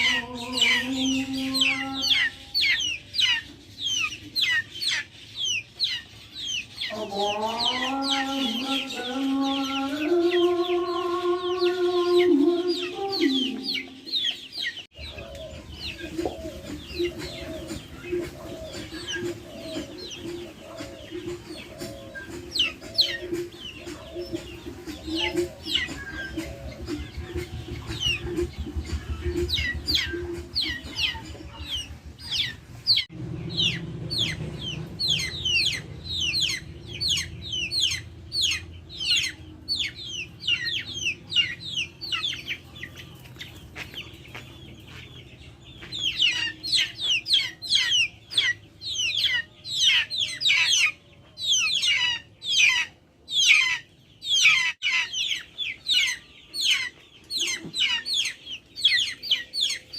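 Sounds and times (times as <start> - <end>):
chickens peeping and clucking: 0.0 - 59.9.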